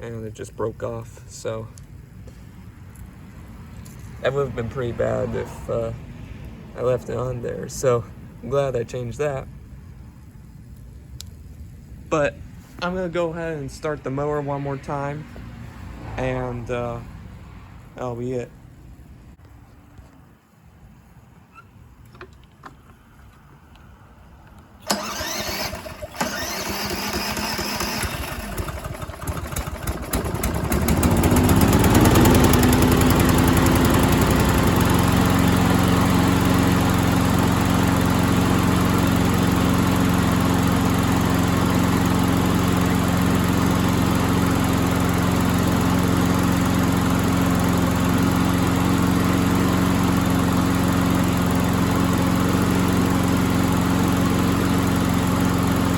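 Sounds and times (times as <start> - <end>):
lawn mower engine starting and running: 0.0 - 19.0, 20.9 - 55.9.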